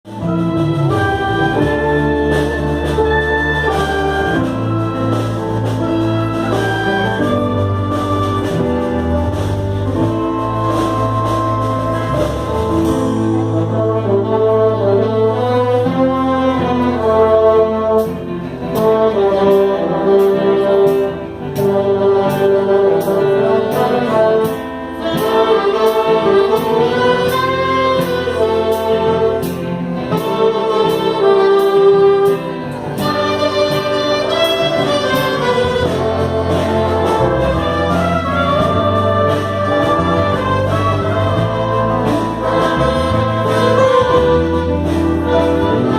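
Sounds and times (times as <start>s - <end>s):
brass band playing: 0.0s - 45.9s
steady drum beat: 0.1s - 14.0s, 17.6s - 45.9s.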